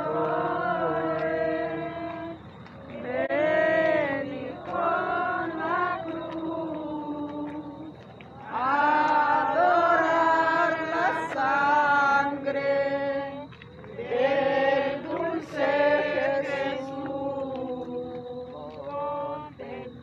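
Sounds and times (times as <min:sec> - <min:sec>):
people singing a hymn: 0:00.0 - 0:20.0.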